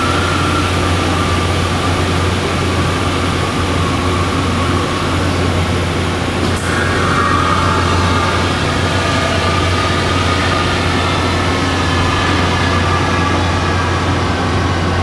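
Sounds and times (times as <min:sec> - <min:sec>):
hydraulic hiss: 0:00.0 - 0:15.0
scissor lift mechanical drone: 0:00.0 - 0:15.0.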